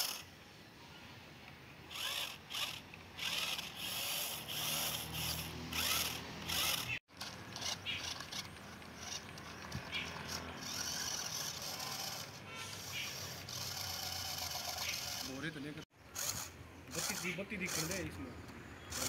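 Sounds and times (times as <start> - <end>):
toy car motor whirring: 0.0 - 0.3, 1.9 - 15.5, 16.1 - 18.2.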